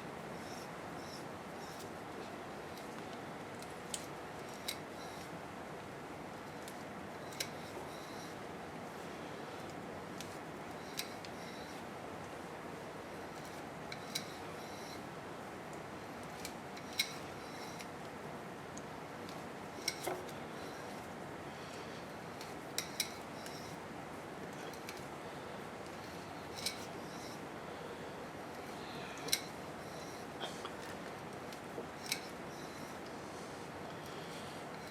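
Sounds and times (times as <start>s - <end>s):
steady background hiss: 0.0s - 34.9s.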